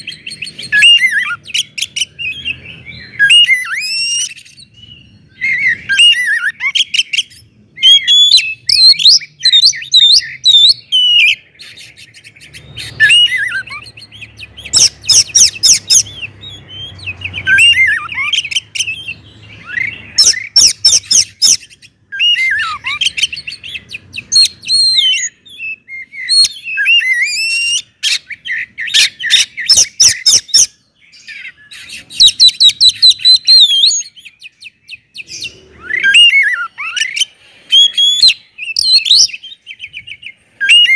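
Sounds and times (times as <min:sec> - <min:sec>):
bird singing whistles and chirps: 0:00.0 - 0:40.9.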